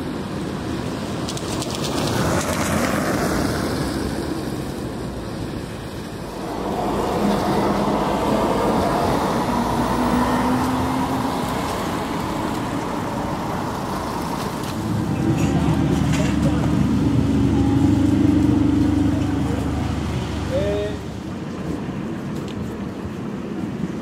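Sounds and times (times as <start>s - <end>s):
cars passing: 0.0s - 24.0s
electric tram running on track: 0.0s - 24.0s.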